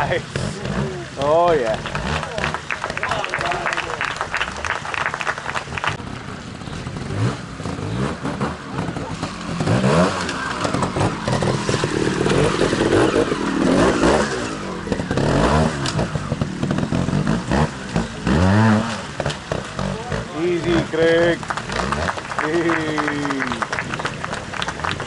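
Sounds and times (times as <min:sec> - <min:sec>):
motorcycle engine revving: 0:00.0 - 0:04.7, 0:05.7 - 0:25.0.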